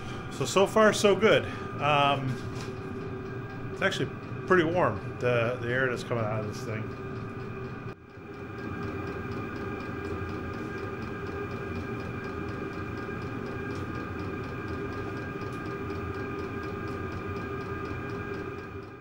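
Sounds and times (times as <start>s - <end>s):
air heater fan whirring hum: 0.0s - 19.0s
steady tones: 0.0s - 19.0s.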